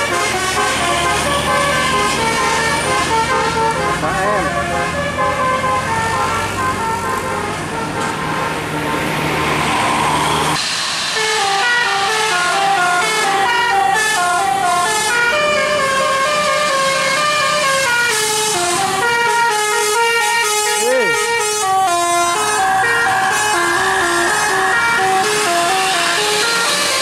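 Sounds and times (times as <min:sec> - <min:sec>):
musical bus air horn melody: 0:00.0 - 0:09.2, 0:11.1 - 0:27.0
bus engine running low: 0:00.0 - 0:27.0.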